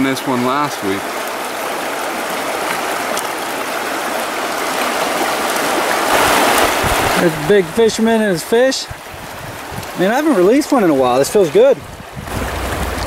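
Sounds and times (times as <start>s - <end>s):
river current rushing: 0.0s - 13.0s.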